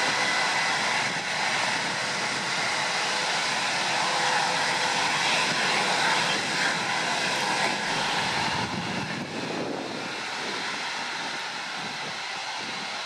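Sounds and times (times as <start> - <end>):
jet engine running at low power: 0.0 - 13.0.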